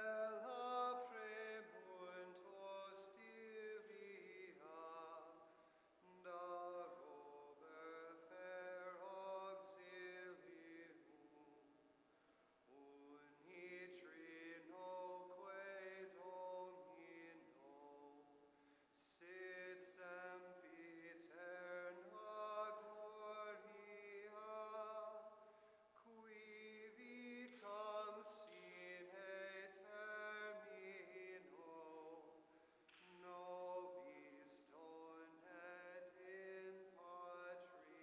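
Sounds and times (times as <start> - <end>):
faint slow sung chant: 0.0 - 12.0, 12.6 - 38.0.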